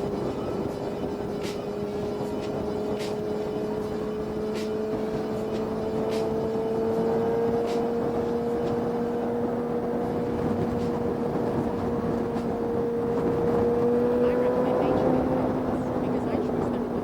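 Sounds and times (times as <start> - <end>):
road noise: 0.0 - 17.0
rushing wind: 0.0 - 17.0
vehicle engine drone: 0.0 - 17.0.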